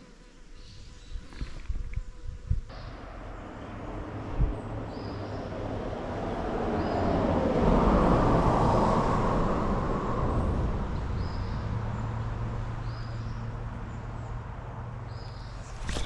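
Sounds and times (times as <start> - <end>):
vehicle passing on road: 2.7 - 16.0.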